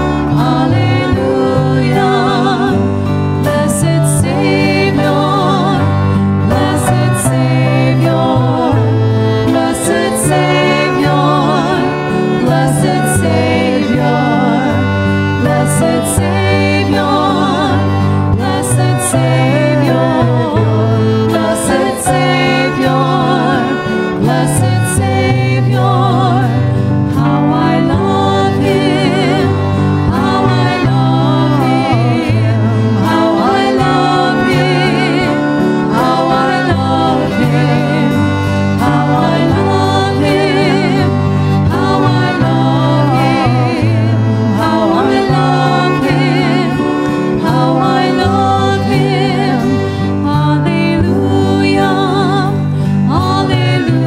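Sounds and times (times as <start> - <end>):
sustained low notes: 0.0 - 54.0
violins playing: 0.0 - 54.0
women singing into microphones: 0.0 - 54.0.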